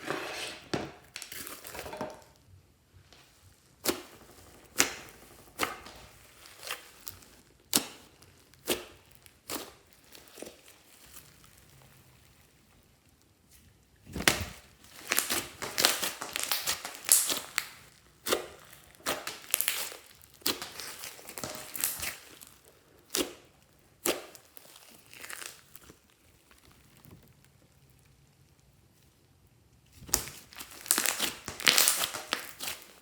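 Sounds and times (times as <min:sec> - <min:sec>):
slime squishing with crackles: 0:01.0 - 0:33.0.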